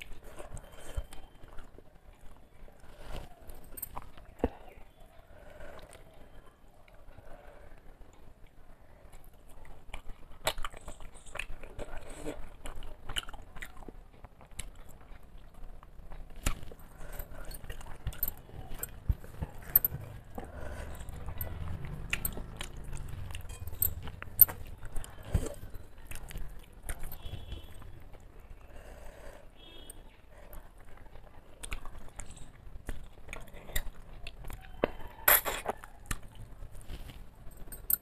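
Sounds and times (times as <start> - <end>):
close-miked chewing: 0.0 - 38.0.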